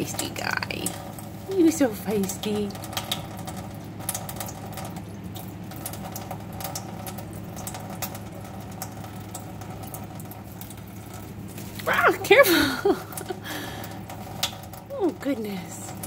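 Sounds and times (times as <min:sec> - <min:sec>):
steady low hum: 0:00.0 - 0:16.0
water splashing and pattering: 0:00.0 - 0:16.0.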